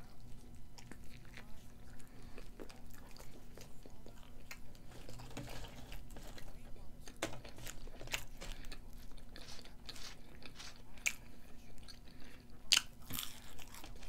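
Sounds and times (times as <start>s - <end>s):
person chewing crunchy fries: 0.0s - 14.0s.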